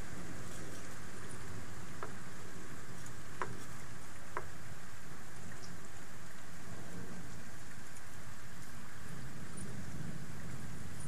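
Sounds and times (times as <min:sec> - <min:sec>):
steady heavy rain: 0:00.0 - 0:11.0.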